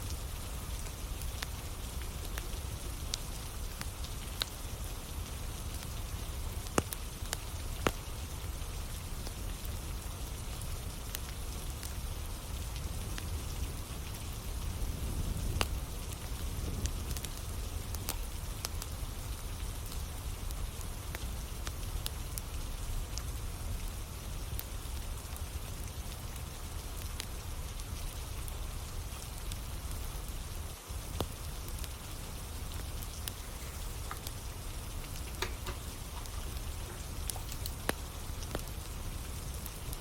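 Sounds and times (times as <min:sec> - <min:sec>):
steady rain: 0:00.0 - 0:40.0
wood fire crackling: 0:00.0 - 0:40.0.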